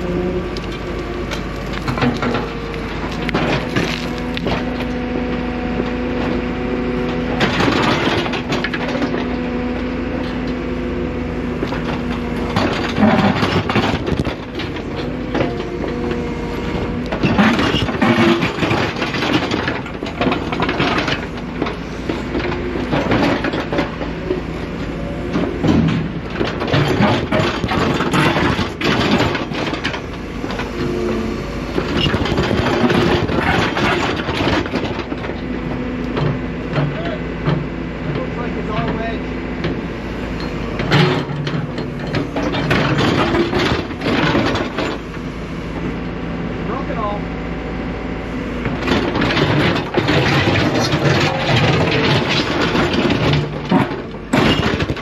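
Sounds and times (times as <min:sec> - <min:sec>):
clanks scrapes and crunches: 0:00.0 - 0:47.2, 0:48.1 - 0:55.0
excavator engine running: 0:00.0 - 0:55.0.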